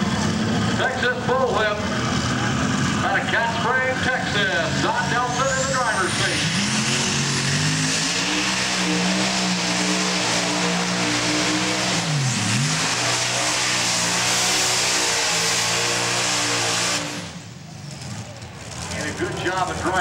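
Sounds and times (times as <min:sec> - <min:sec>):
tractor engine at full power: 0:00.0 - 0:20.0.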